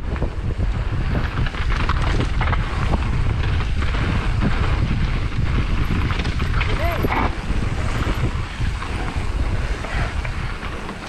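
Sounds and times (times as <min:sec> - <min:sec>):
bike knocks and rattles: 0:00.0 - 0:11.0
wind rushing over microphone: 0:00.0 - 0:11.0.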